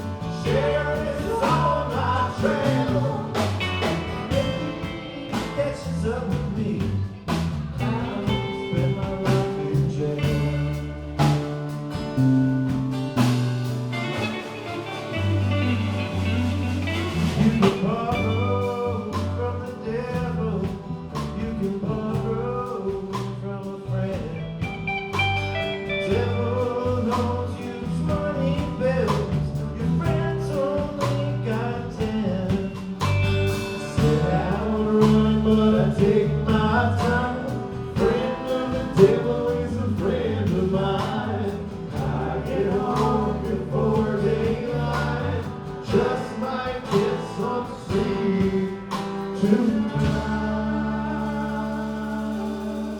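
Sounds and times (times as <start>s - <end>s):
man singing: 0.0s - 11.4s, 15.2s - 24.9s, 25.8s - 52.9s
live band playing: 0.0s - 19.4s, 24.1s - 52.9s.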